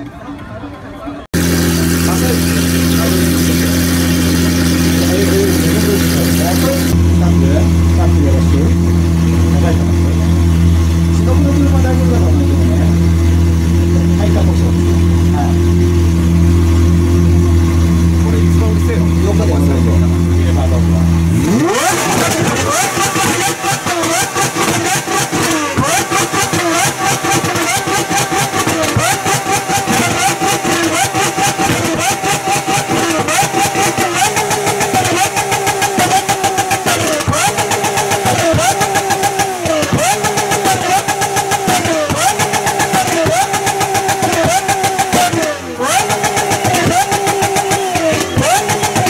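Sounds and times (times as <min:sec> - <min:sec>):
car engine revving: 0:01.2 - 0:49.0.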